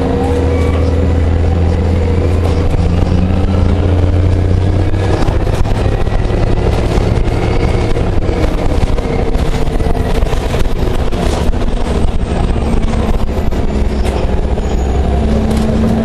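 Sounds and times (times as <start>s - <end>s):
bus engine drone: 0.0s - 16.0s
road and wind noise: 0.0s - 16.0s.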